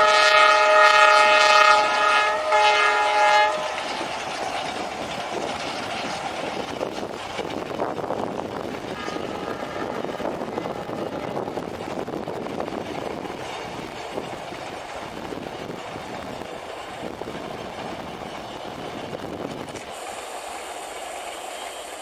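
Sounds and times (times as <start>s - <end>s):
train passing rumble: 0.0s - 22.0s.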